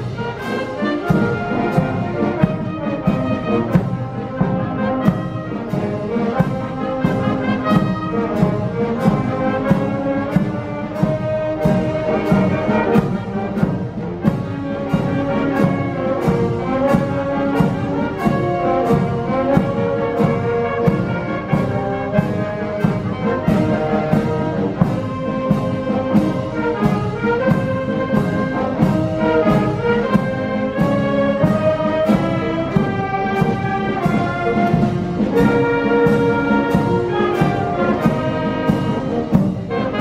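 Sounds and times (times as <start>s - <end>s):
brass band playing: 0.0s - 40.0s
steady drum beat: 0.0s - 40.0s.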